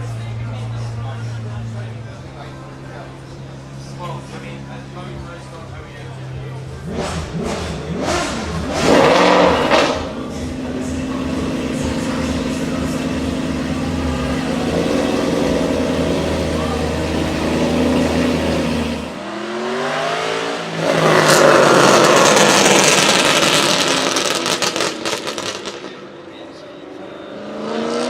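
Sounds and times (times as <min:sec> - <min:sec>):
car engine revving and accelerating: 0:00.0 - 0:28.0.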